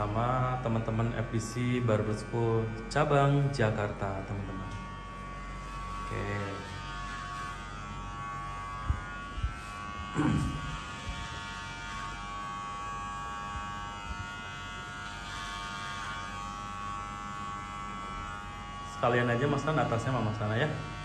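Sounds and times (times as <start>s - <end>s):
electric hair clipper buzzing: 0.0s - 21.0s.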